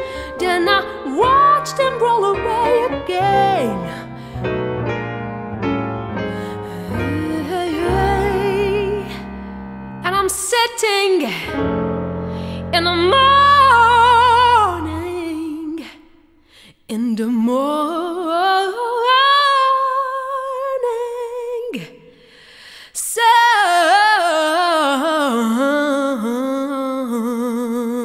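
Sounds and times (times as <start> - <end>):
person singing with vibrato: 0.0 - 4.4, 6.3 - 11.7, 12.4 - 22.2, 22.9 - 28.0.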